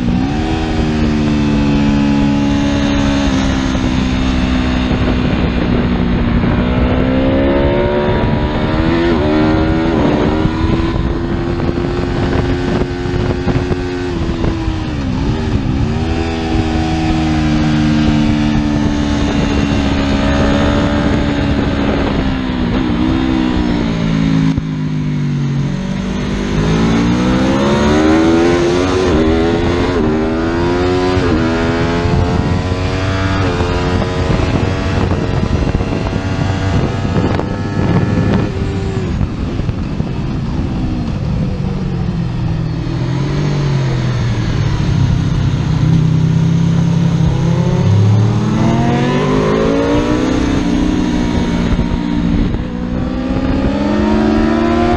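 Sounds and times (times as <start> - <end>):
motorcycle engine revving through gears: 0.0 - 54.9.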